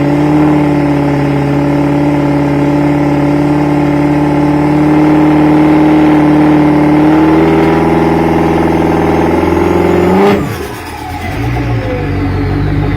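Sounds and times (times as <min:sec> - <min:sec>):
diesel truck engine running hard: 0:00.0 - 0:12.9.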